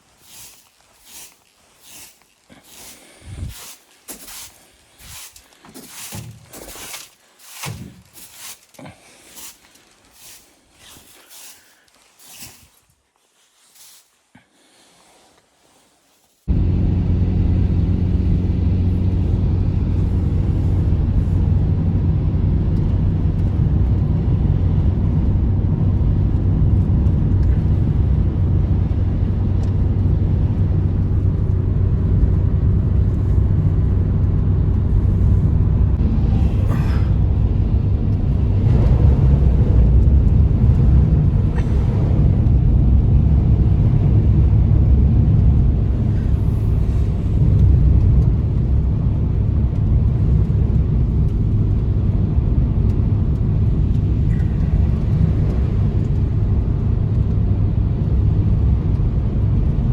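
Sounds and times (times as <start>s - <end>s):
low roar of blizzard wind: 0.0s - 12.8s, 16.4s - 59.9s.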